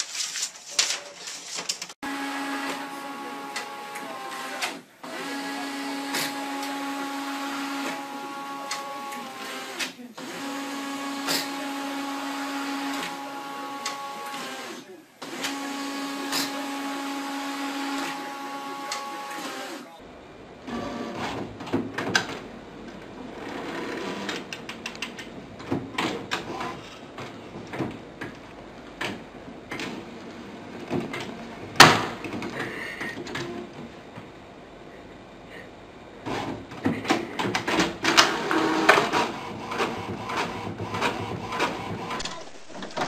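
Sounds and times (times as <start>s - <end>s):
printer running: 0.8s - 34.4s, 36.2s - 43.0s.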